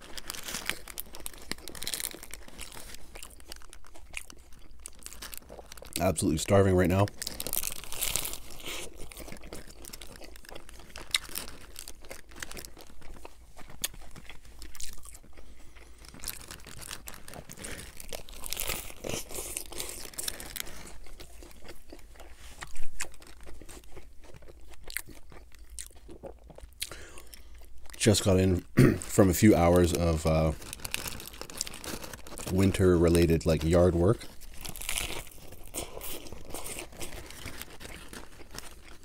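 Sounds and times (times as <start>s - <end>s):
paper wrapper crinkling: 0.0s - 15.3s, 16.0s - 21.6s, 27.9s - 39.0s
lettuce crunching while chewing: 0.0s - 39.0s.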